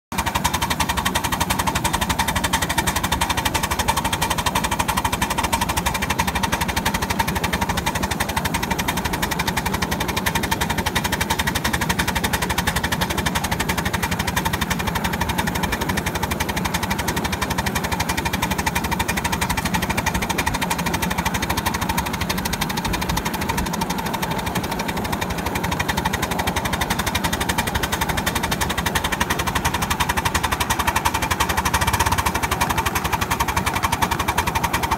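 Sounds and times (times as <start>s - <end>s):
miniature train rattling on track: 0.1s - 34.9s.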